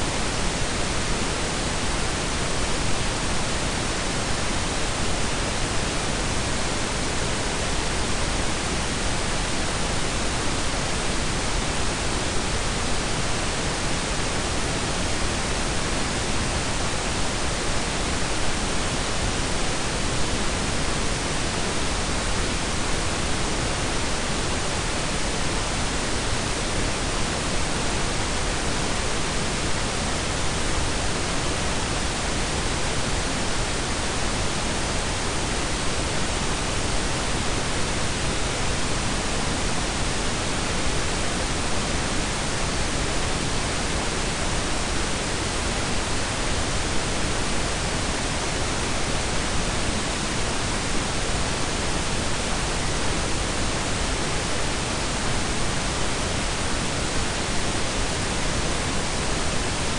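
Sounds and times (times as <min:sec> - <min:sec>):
steady noise hiss and rumble: 0:00.0 - 0:59.9.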